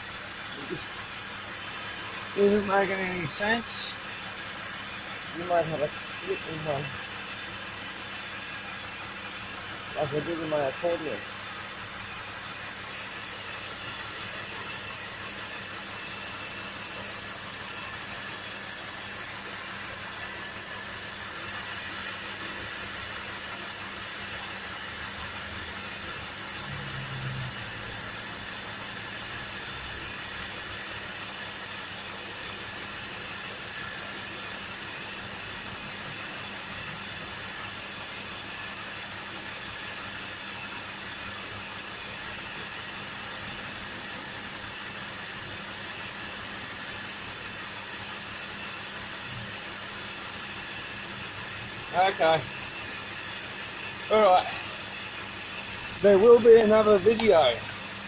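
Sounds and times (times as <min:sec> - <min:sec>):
car engine idling: 0:00.0 - 0:58.0
high-pitched hiss: 0:00.0 - 0:58.0.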